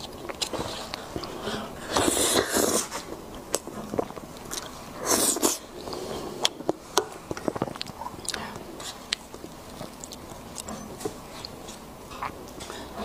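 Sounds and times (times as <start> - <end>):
wet mouth eating sounds: 0.0 - 13.0.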